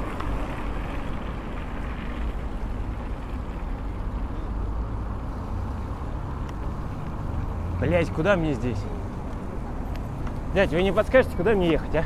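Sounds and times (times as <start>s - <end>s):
passing car traffic: 0.0s - 12.0s.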